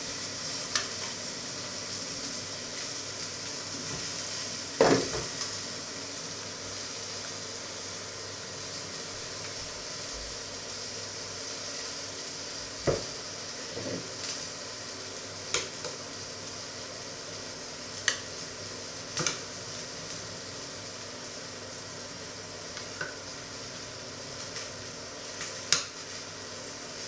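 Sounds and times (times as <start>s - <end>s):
cooking pots hissing: 0.0s - 27.0s.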